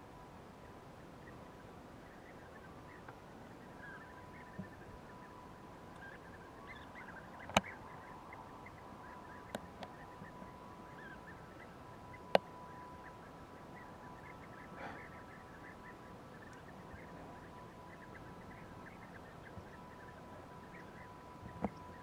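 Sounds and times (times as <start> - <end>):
thin steady tone: 0.0 - 22.0
faint bird chirps: 0.1 - 22.0.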